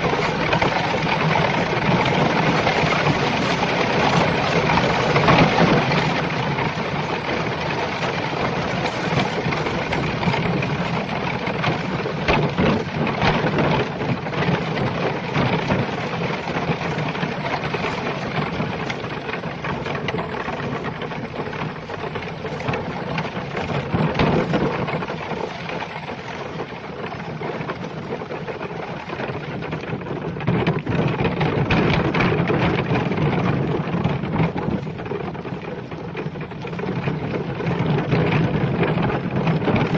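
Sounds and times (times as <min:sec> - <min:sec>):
cart rolling clatter: 0:00.0 - 0:39.9.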